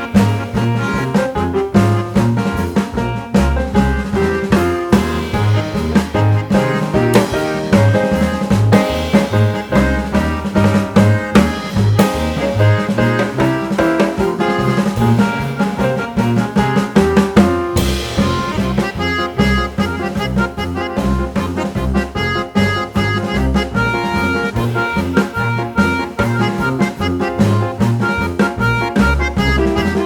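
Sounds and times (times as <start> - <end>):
bass line: 0.0 - 30.0
drum kit beat: 0.0 - 30.0
jazz background music: 0.0 - 30.0.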